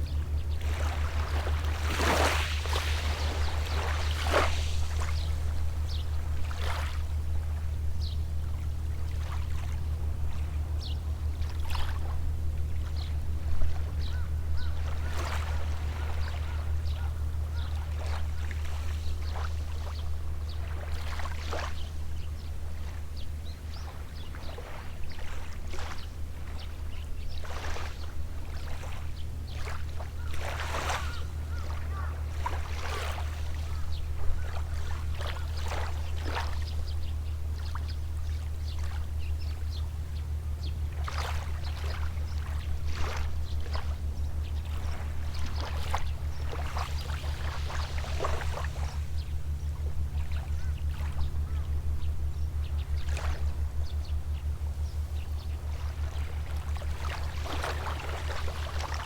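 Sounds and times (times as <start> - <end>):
sea waves lapping on shore: 0.0 - 59.0
steady low hum: 0.0 - 59.0.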